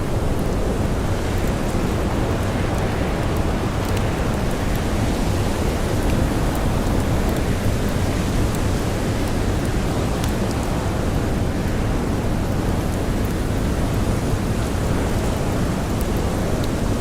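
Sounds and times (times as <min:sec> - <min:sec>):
faint campfire crackles: 0:00.0 - 0:17.0.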